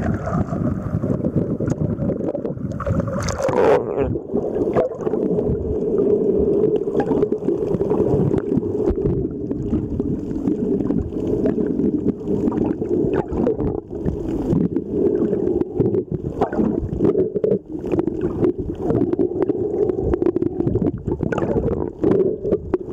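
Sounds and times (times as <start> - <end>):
muffled underwater hum: 0.0 - 22.9
underwater clicks and crackles: 0.0 - 22.9.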